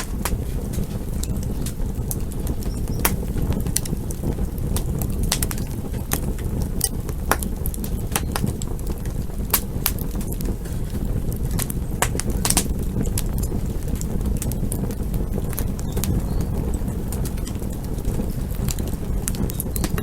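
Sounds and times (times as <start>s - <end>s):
fire crackles and pops: 0.0s - 20.0s
wood fire roaring: 0.0s - 20.0s.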